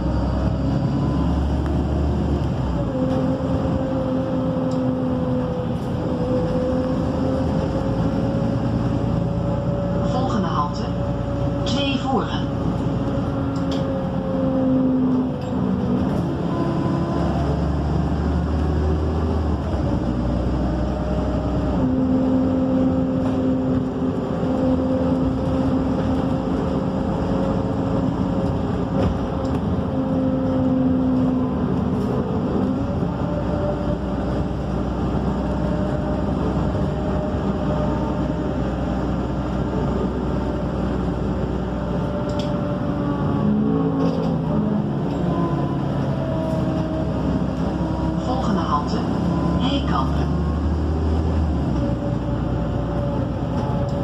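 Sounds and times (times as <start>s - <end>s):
bus engine rumbling and whining: 0.0s - 54.0s.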